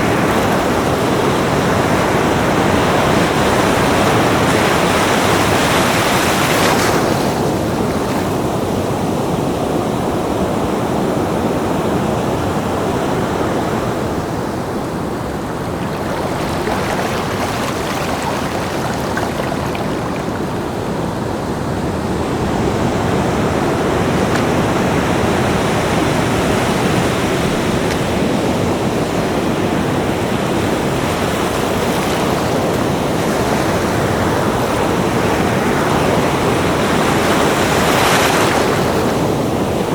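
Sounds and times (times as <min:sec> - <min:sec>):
ocean surf breaking: 0:00.0 - 0:10.1, 0:11.2 - 0:39.9.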